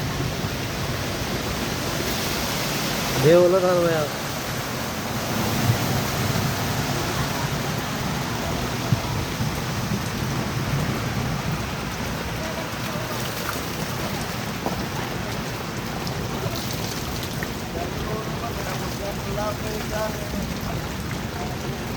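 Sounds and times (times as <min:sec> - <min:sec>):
heavy rain pouring: 0:00.0 - 0:21.9.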